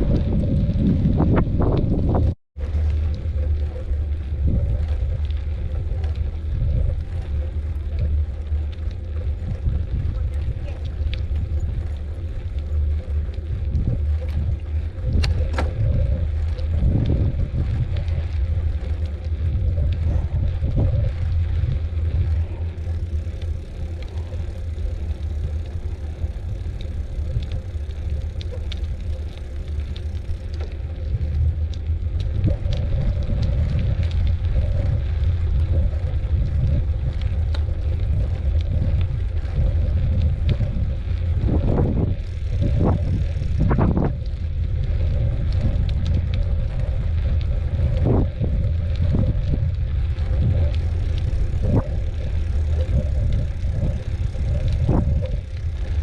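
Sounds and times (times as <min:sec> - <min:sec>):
bicycle clicks and rattles: 0:00.0 - 0:56.0
wind buffeting microphone: 0:00.0 - 0:56.0.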